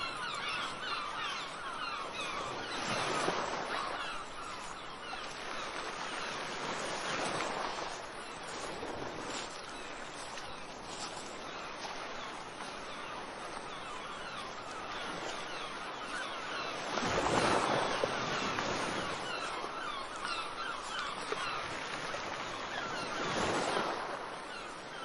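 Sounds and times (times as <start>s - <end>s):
gulls calling: 0.0s - 25.0s
waves breaking: 0.0s - 25.0s.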